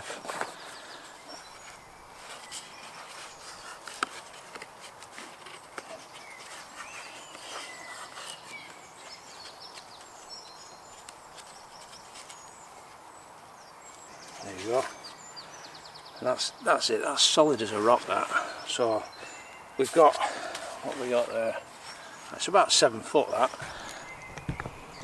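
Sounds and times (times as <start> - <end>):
hands rustling with cord: 0.0 - 15.2, 17.7 - 25.0
faint bird chirps: 0.2 - 4.1, 5.4 - 25.0.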